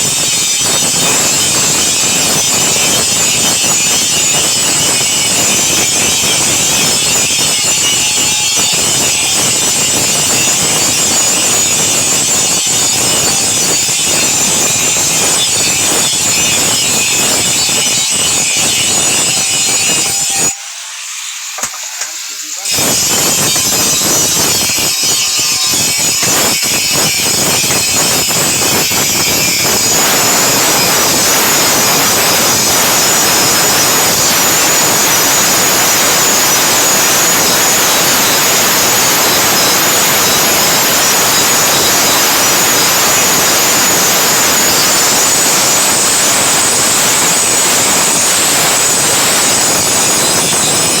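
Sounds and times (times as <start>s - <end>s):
power grinder grinding steel: 0.0s - 51.0s.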